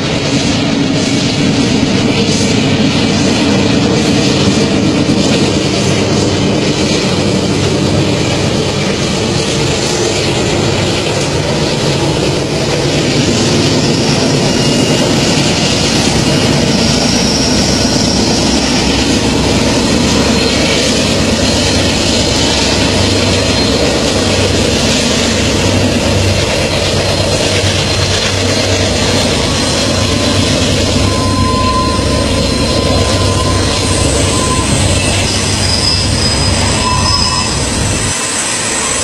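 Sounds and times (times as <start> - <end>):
diesel locomotive engine drone: 0.0 - 39.0.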